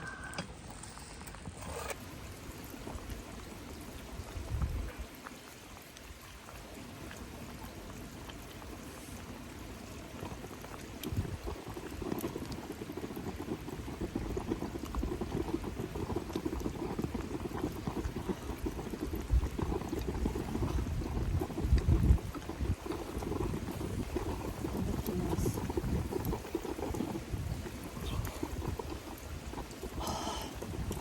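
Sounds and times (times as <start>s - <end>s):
liquid bubbling: 0.1s - 31.0s.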